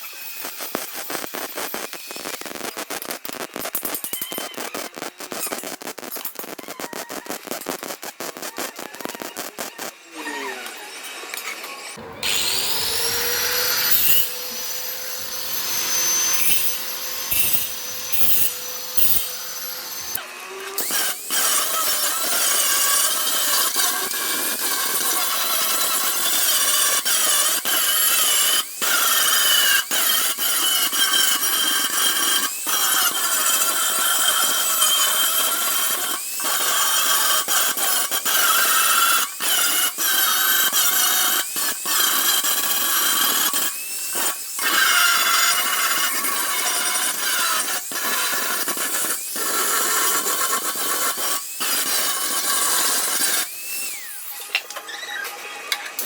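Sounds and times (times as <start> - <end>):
grinder rasping on steel: 0.0 - 55.2
power tool whining: 9.4 - 56.0.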